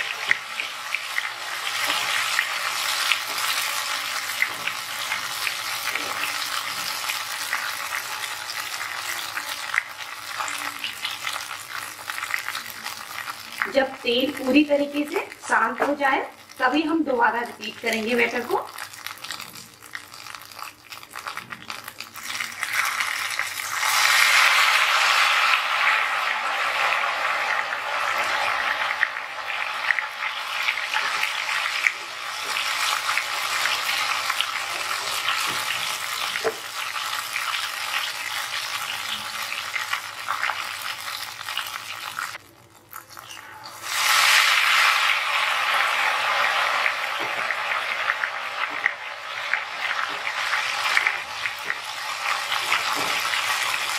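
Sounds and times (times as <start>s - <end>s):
batter sizzling in hot oil: 0.0s - 53.9s.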